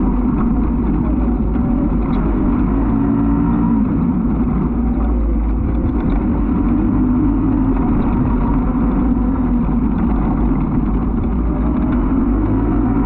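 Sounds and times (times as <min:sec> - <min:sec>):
low rumble: 0:00.0 - 0:13.0
race vehicle engine running: 0:00.0 - 0:13.0.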